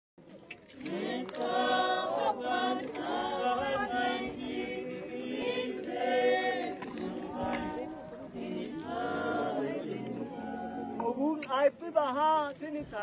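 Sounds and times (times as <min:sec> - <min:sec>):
choir singing unaccompanied: 0:00.8 - 0:11.5.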